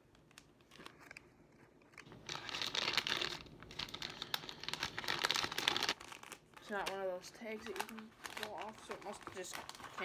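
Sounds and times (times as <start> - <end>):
plastic bag crinkling: 2.0 - 10.0.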